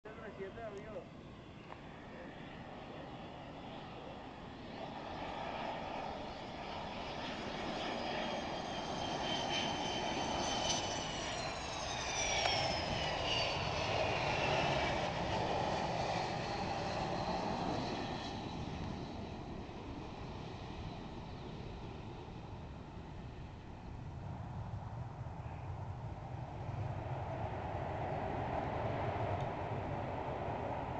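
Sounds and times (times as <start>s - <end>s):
jet airliner passing: 0.1s - 30.9s.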